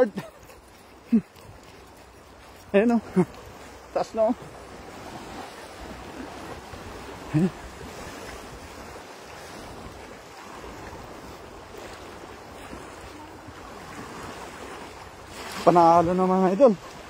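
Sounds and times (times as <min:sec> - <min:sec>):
shallow seawater washing: 0:00.0 - 0:17.0
wind buffeting microphone: 0:03.0 - 0:17.0.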